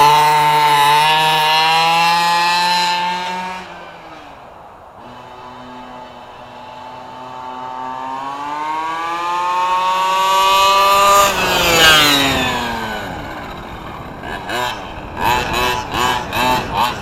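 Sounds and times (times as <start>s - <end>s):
model truck engine passing by: 0.0s - 17.0s.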